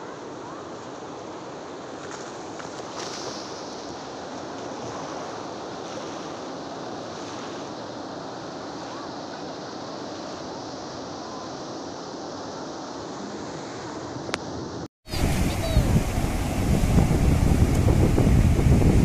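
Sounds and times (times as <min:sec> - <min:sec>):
waves breaking on shore: 0:00.0 - 0:19.0.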